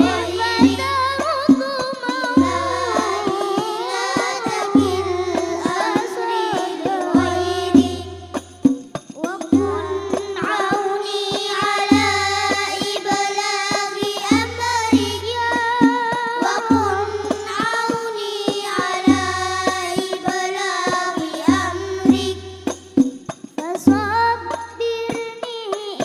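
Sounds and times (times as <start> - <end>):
children singing: 0.0 - 22.7
frame drums: 0.0 - 26.0.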